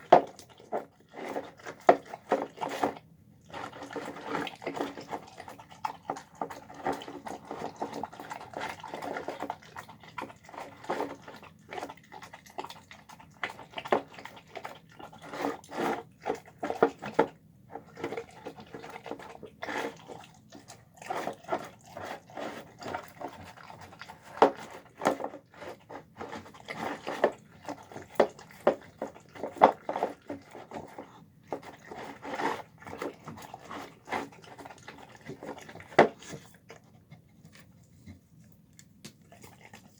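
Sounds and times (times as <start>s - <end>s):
dog chewing and licking: 0.0s - 39.9s.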